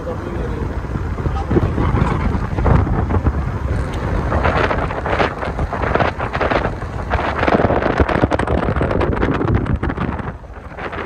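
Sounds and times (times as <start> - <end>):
vehicle rumble on road: 0.0 - 11.0
wind buffeting microphone: 0.0 - 11.0.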